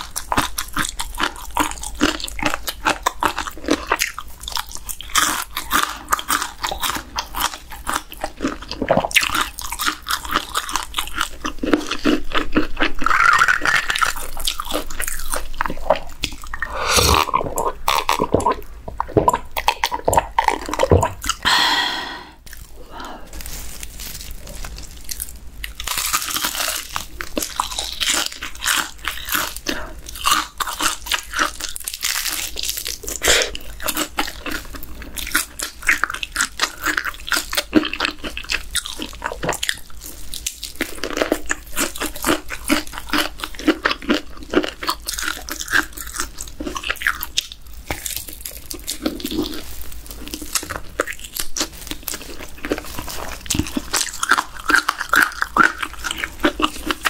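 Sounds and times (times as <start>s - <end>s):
crunchy chewing of fried chicken: 0.0s - 21.5s, 22.4s - 57.0s.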